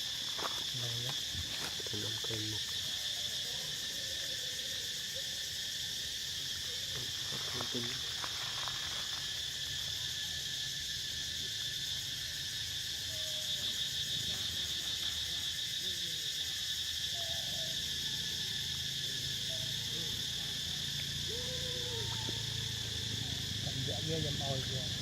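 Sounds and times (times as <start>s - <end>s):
faint short insect calls: 0.0s - 25.0s
insects droning: 0.0s - 25.0s.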